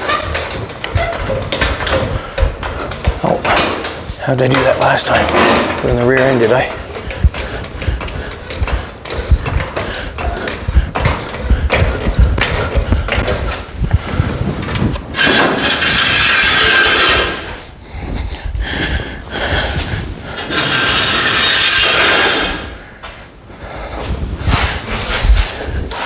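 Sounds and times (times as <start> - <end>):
floor jack rolling on concrete: 0.0 - 17.7, 19.4 - 22.7
knocks and scrapes: 0.0 - 18.4, 19.4 - 23.2.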